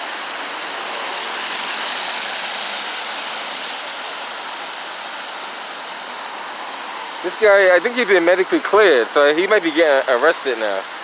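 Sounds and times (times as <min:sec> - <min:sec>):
highway traffic rushing: 0:00.0 - 0:11.0.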